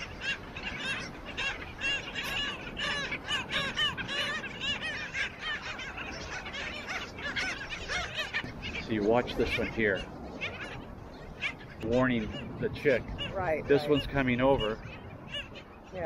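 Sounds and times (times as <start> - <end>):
seabirds barking calls: 0.0 - 16.0.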